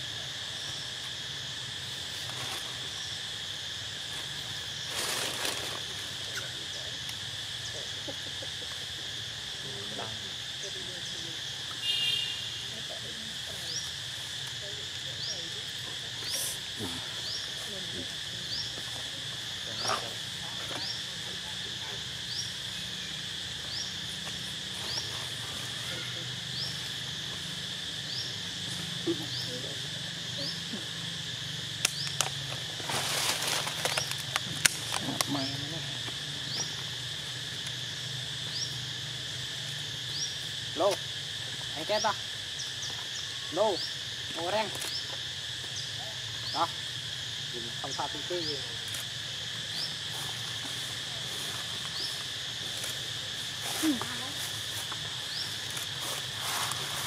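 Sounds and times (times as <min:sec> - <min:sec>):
brief pitched insect call: 0:00.0 - 0:57.0
insects droning: 0:00.0 - 0:57.0.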